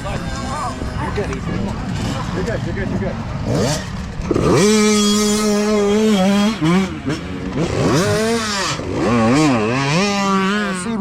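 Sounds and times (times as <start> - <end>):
dirt bike engine revving: 0.0 - 11.0
second dirt bike engine: 0.0 - 11.0.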